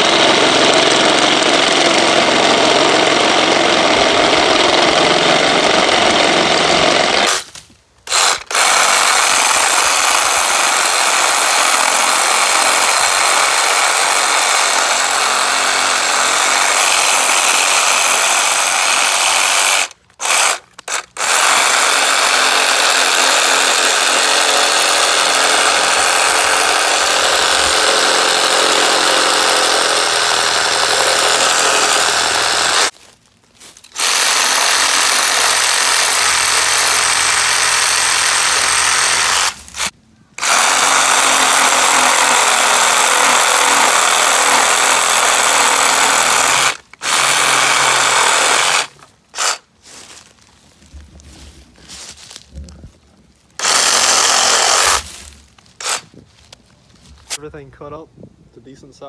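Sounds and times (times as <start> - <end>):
reciprocating saw cutting branches: 0.0 - 33.0, 33.6 - 50.3, 53.5 - 56.6.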